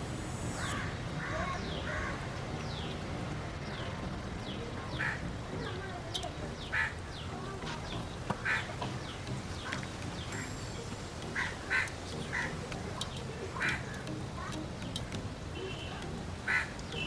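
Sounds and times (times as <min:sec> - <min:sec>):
steady background hiss: 0:00.0 - 0:17.0
birds making harsh calls: 0:00.4 - 0:03.0, 0:04.7 - 0:05.9, 0:06.5 - 0:17.0.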